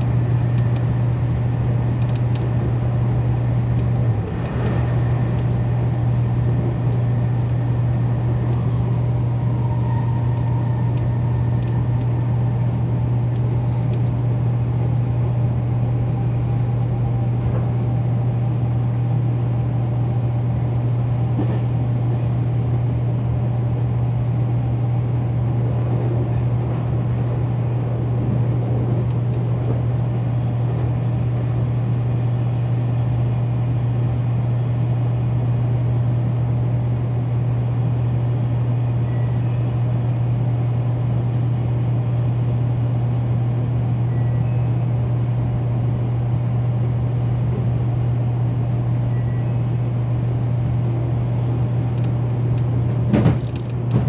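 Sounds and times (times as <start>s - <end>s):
train interior hum and rumble: 0.0s - 54.0s.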